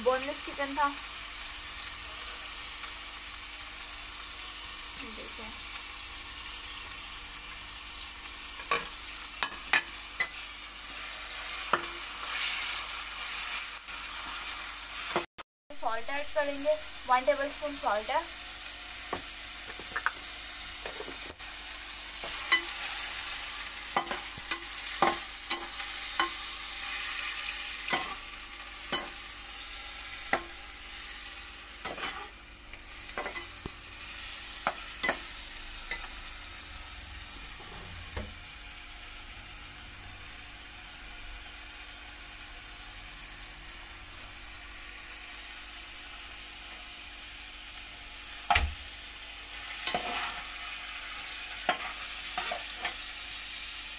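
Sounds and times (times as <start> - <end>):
chicken sizzling in oil: 0.0 - 53.9.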